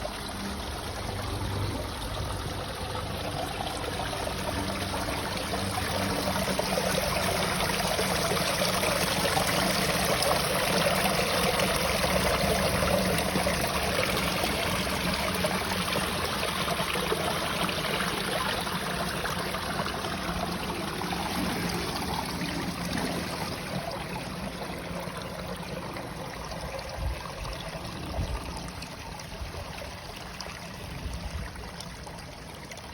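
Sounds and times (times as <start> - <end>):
stream flowing and trickling: 0.0 - 32.9.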